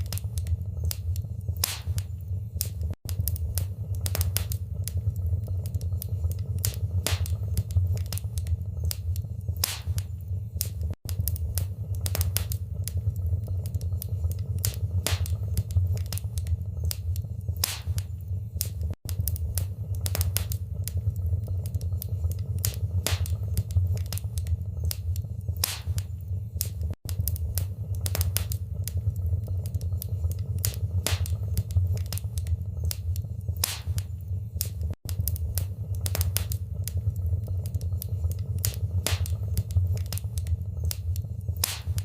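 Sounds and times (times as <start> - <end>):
wood fire crackling and popping: 0.0 - 42.0.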